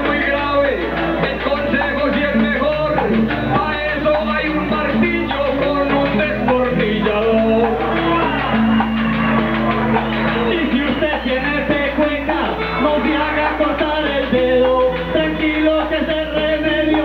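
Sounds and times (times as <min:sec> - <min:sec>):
man singing into microphone: 0:00.0 - 0:08.6, 0:10.3 - 0:17.0
guitar accompaniment: 0:00.0 - 0:17.0.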